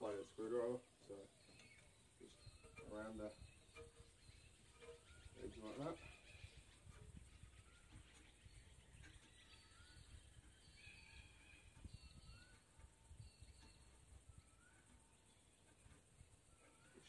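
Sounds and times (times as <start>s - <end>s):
distant birds chirping: 0.0s - 17.0s.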